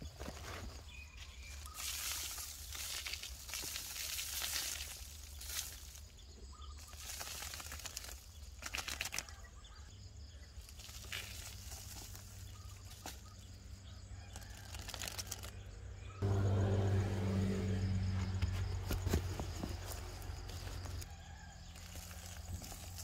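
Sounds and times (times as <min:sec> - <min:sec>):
rustling and crackling soil: 0:00.0 - 0:16.7, 0:18.0 - 0:23.0.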